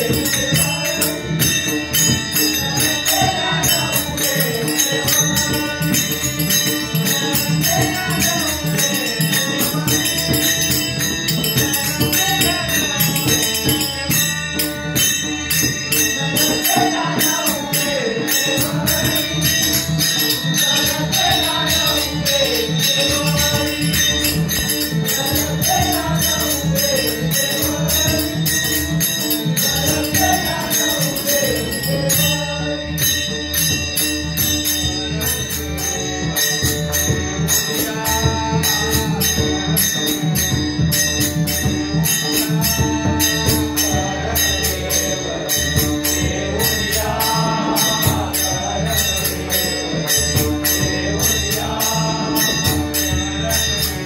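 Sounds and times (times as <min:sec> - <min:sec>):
hand cymbals clashing: 0:00.0 - 0:54.0
men singing: 0:00.0 - 0:54.0.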